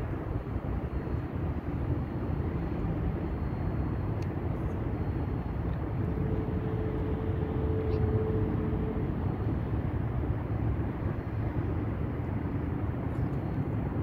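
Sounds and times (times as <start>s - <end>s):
distant city traffic rumble: 0.0s - 14.0s
faint steady hum: 0.0s - 14.0s.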